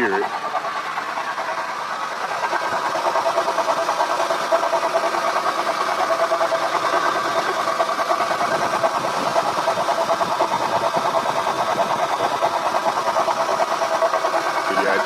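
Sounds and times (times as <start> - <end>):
car engine idling: 0.0 - 15.0
power steering pump fluttering hum: 0.0 - 15.0.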